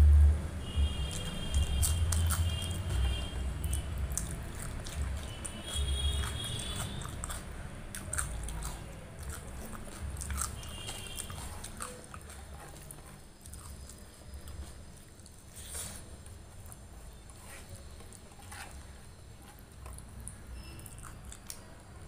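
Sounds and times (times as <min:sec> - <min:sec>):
close chewing with wet clicks: 0:00.7 - 0:22.0.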